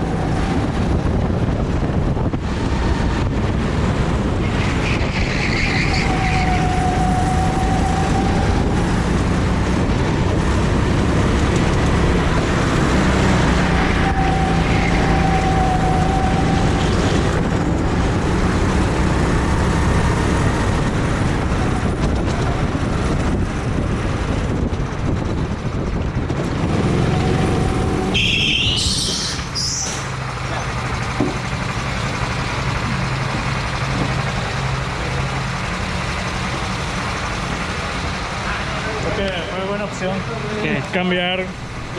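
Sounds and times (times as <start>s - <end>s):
rushing wind noise: 0.0s - 39.9s, 40.6s - 41.9s
go-kart engine running: 0.0s - 41.9s.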